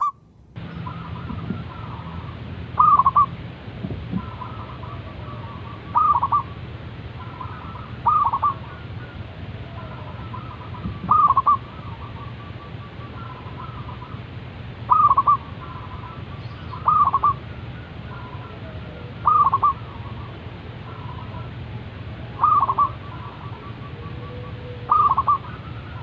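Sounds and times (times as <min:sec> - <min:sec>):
dove calls: 0:00.0 - 0:26.0
faint dove calls: 0:00.8 - 0:03.4, 0:04.1 - 0:06.6, 0:07.2 - 0:14.2, 0:14.9 - 0:26.0.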